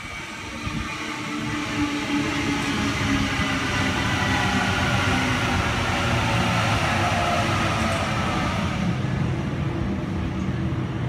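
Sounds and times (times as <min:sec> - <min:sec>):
train wheel and track rumble: 0:00.0 - 0:11.0.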